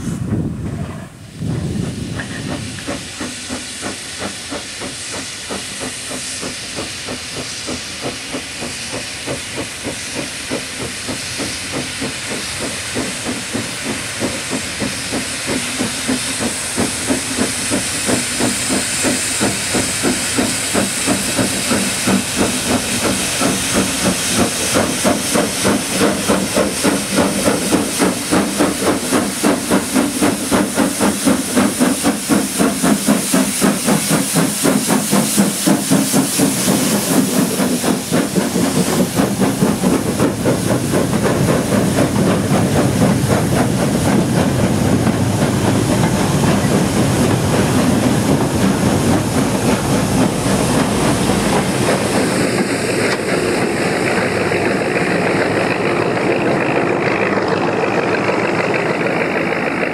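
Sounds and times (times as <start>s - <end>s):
steam hissing: 0.0s - 59.9s
steam locomotive chuffing: 0.0s - 59.9s.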